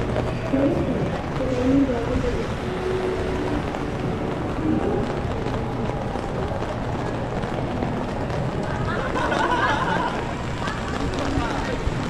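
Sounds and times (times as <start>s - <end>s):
rain: 0.0s - 12.0s
traffic: 0.0s - 12.0s.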